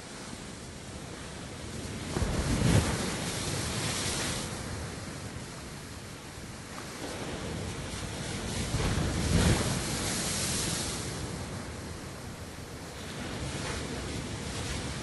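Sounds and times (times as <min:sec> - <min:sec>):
sea waves breaking against cliff: 0:00.0 - 0:15.0.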